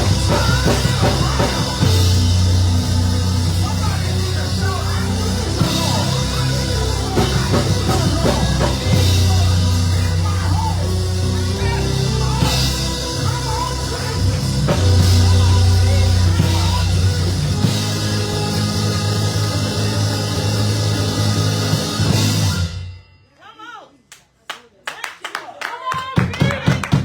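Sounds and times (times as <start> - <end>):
low bass notes: 0.0 - 22.8
church band playing: 0.0 - 22.9
drum kit with cymbal hits: 0.0 - 23.0.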